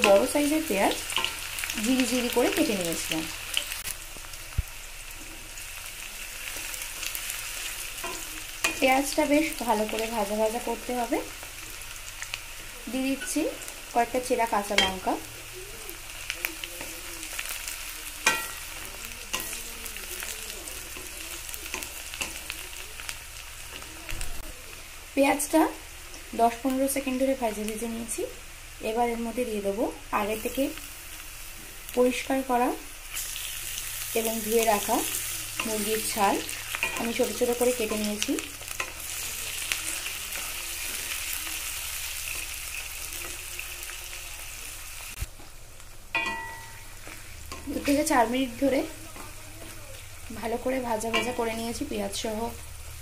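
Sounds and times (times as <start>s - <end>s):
onions sizzling in hot oil: 0.0s - 53.0s.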